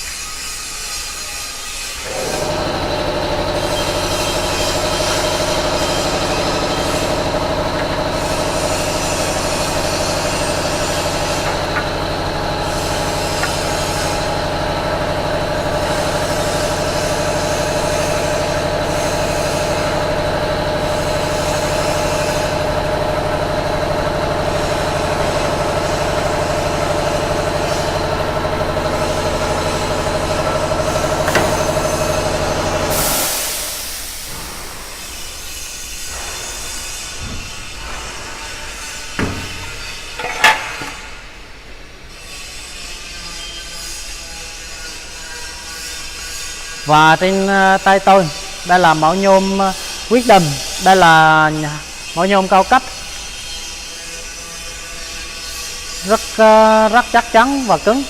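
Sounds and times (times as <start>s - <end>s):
saw blade motors humming: 0.0s - 58.0s.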